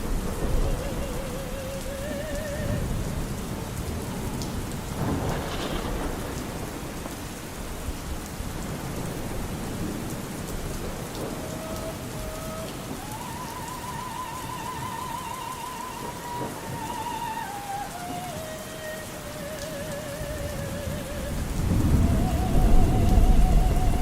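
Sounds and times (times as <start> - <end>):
steady rain: 0.0 - 24.0
thunder rumble: 0.0 - 24.0.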